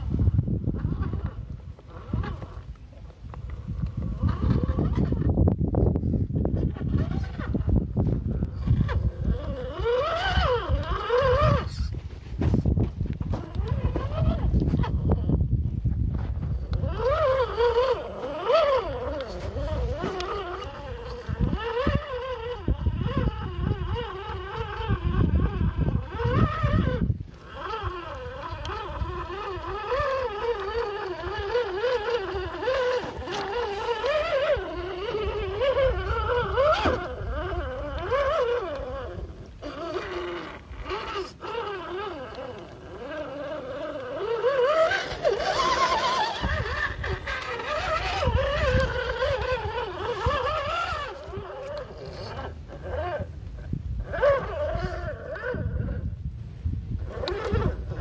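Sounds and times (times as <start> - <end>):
electric motor and gearbox whine: 0.0 - 58.0.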